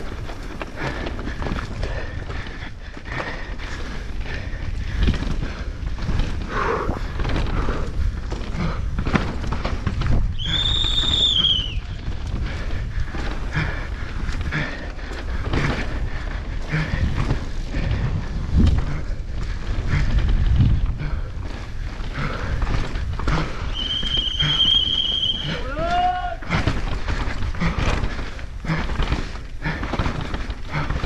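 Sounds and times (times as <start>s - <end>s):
bike knocks and rattles: 0.0s - 11.0s, 11.8s - 31.0s
mountain bike rumble: 0.0s - 31.0s.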